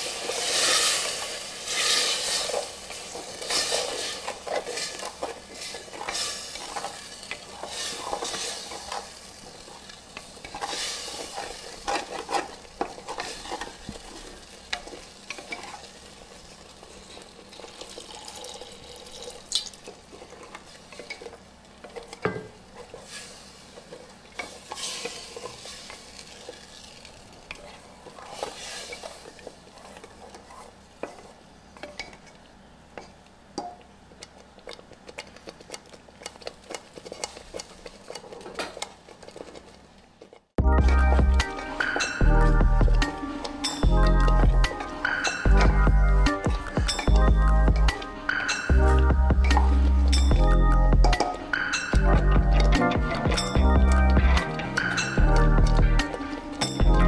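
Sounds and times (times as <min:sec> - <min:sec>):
light sizzle: 0:00.0 - 0:57.0.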